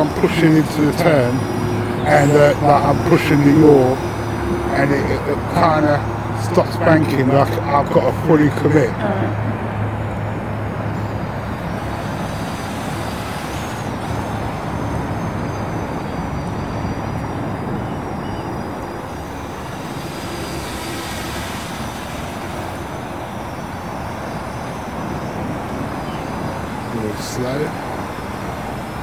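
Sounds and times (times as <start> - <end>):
drone propellers whining: 0.0 - 29.0
steady low rumble: 0.0 - 29.0.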